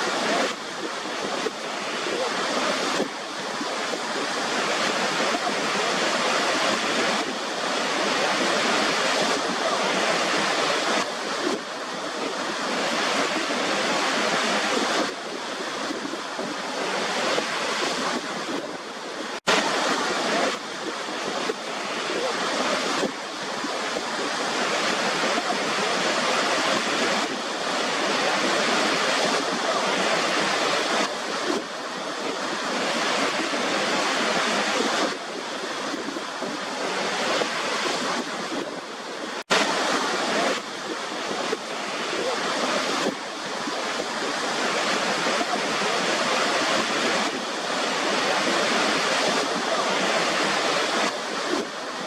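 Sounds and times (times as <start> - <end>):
waterfall rushing and splashing: 0.0 - 52.0.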